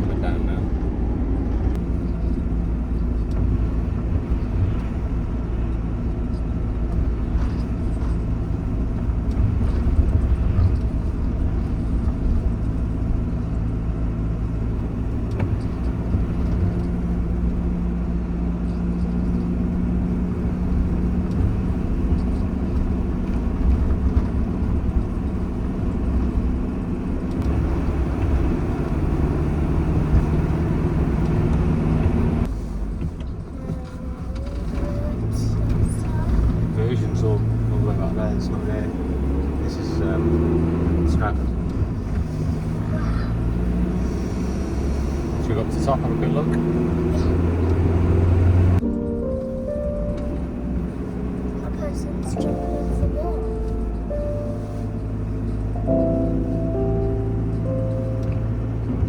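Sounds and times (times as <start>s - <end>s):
van engine and road noise: 0.0s - 59.0s.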